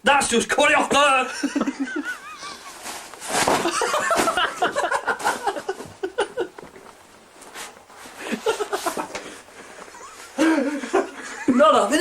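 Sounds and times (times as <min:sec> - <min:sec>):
men laughing and talking: 0:00.7 - 0:06.7, 0:08.2 - 0:12.0.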